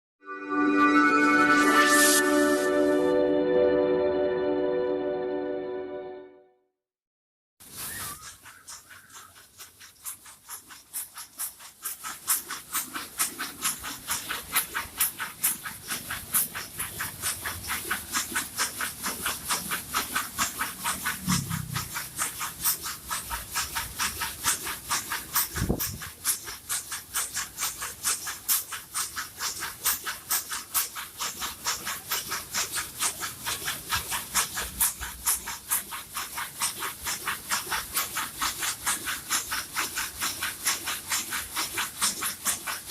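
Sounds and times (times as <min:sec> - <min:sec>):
skewers clattering in machine: 0:07.6 - 0:42.9.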